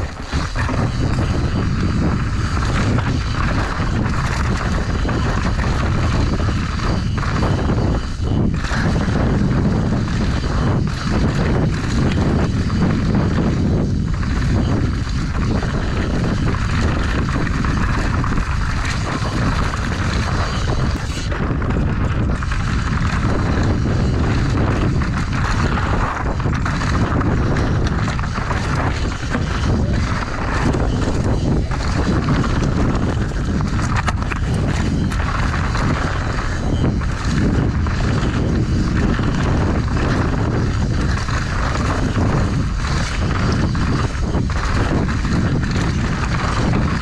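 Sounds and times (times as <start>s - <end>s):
bike rattling over stones: 0.0s - 47.0s
tyres rumbling over rock: 0.0s - 47.0s
wind buffeting microphone: 0.0s - 47.0s.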